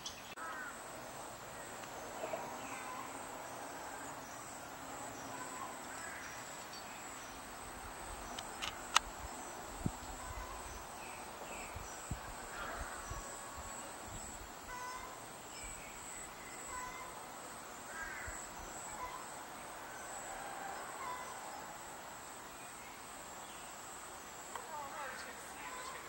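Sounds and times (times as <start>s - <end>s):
insect drone: 0.0s - 26.0s
songbirds chirping: 0.0s - 26.0s.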